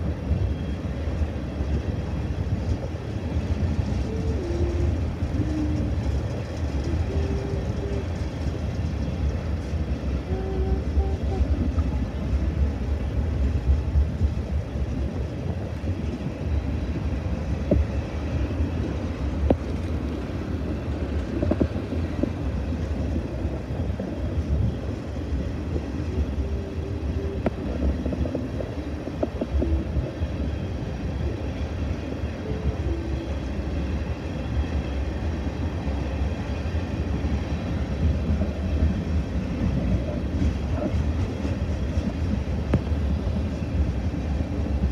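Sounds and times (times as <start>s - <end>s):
steel wheels rumbling on rail: 0.0s - 44.9s.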